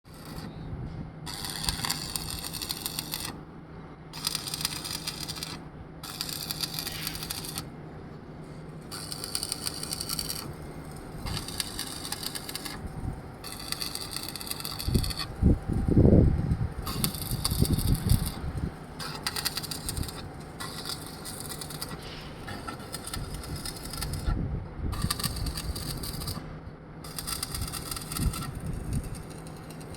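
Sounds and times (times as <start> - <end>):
welding arc crackling: 0.1 - 0.6, 1.3 - 3.4, 4.2 - 8.0, 8.8 - 24.4, 25.0 - 26.4, 27.0 - 29.9.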